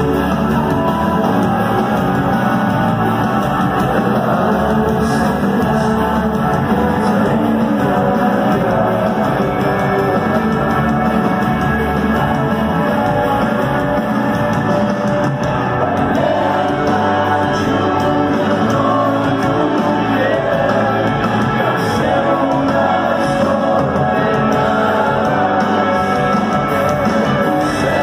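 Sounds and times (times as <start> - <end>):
person singing: 0.0 - 14.0, 15.4 - 28.0
rock band playing live: 0.0 - 28.0.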